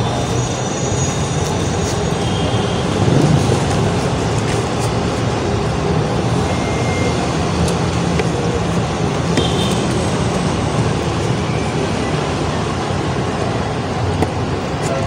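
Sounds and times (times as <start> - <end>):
street traffic engines: 0.0 - 15.0.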